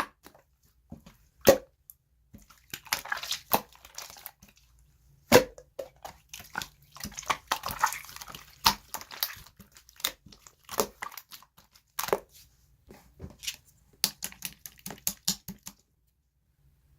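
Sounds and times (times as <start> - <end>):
slime squelching: 0.0 - 15.9.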